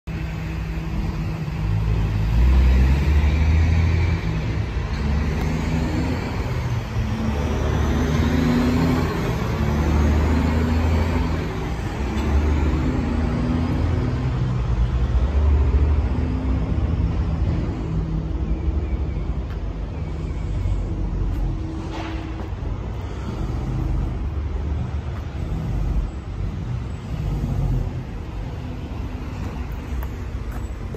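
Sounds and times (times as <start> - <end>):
engine humming: 0.1 - 30.9.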